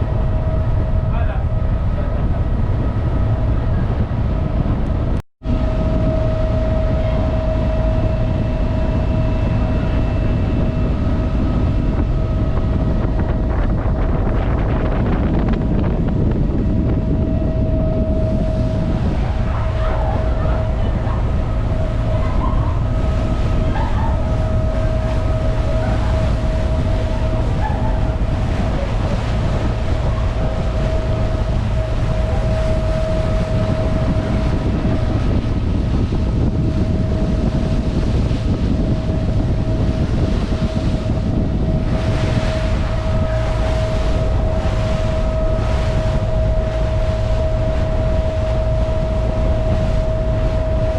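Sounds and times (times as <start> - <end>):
ferry engine droning: 0.0 - 50.9.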